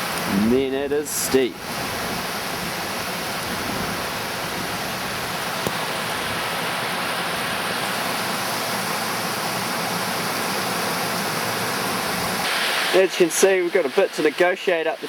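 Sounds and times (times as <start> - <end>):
water rushing down spillway: 0.0 - 15.0.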